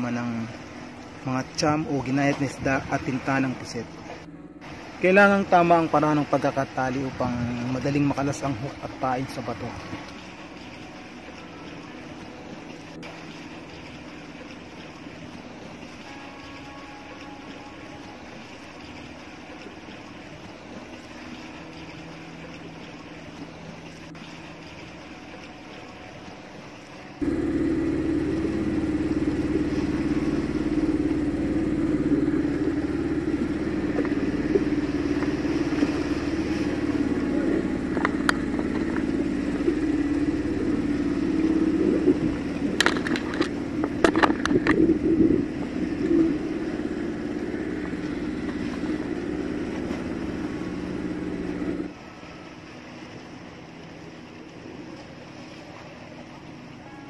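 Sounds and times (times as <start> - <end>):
boat engine running: 0.0 - 57.0
low hum: 0.0 - 57.0
water splashing: 0.0 - 57.0.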